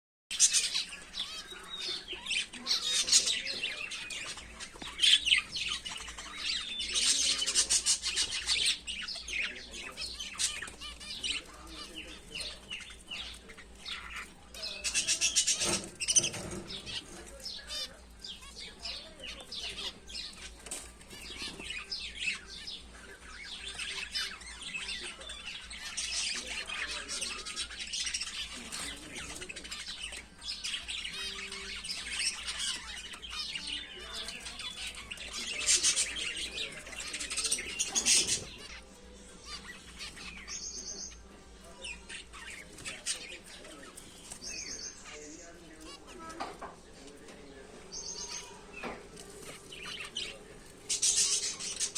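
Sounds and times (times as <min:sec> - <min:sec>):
finches chirping: 0:00.3 - 0:51.9.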